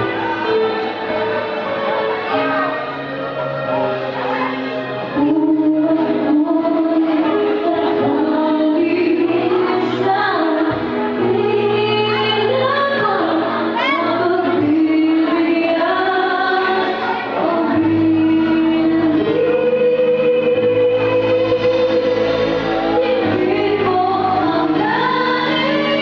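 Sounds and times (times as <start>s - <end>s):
musical accompaniment: 0.0s - 26.0s
woman singing a slow ballad: 5.2s - 26.0s.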